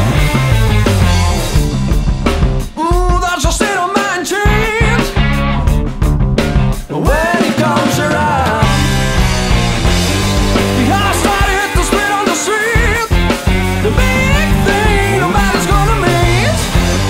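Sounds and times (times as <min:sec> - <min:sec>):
bass line: 0:00.0 - 0:03.3, 0:04.4 - 0:17.0
drums: 0:00.0 - 0:17.0.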